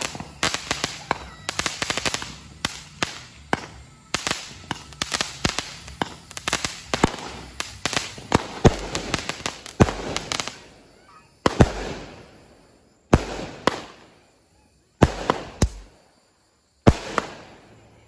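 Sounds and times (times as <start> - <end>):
fireworks pops and bangs: 0.0 - 12.3, 13.1 - 14.2, 15.0 - 16.0, 16.8 - 18.0
fireworks crackling: 0.0 - 18.0.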